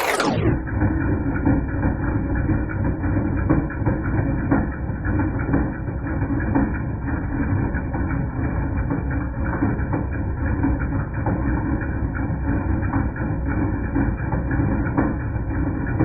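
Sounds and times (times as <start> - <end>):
slowed car engine running: 0.0 - 16.0.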